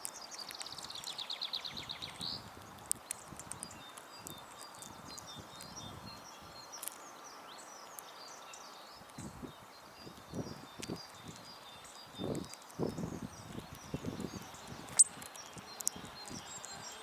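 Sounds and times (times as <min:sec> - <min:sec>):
songbirds chirping: 0:00.0 - 0:17.0
steady outdoor hiss: 0:00.0 - 0:17.0.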